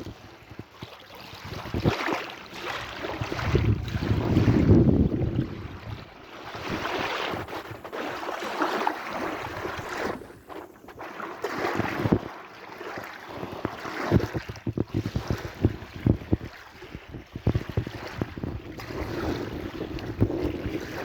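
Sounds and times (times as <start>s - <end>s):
sea waves splashing: 1.0s - 21.0s.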